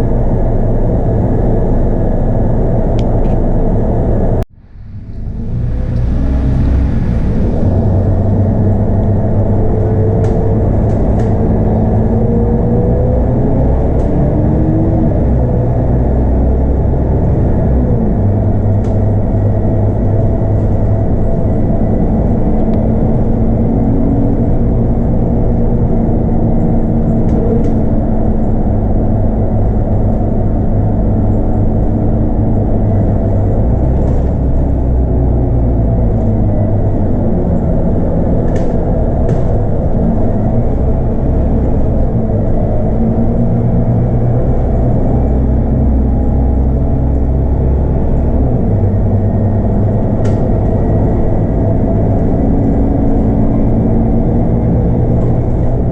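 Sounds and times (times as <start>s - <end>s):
bus diesel engine droning: 0.0s - 55.9s.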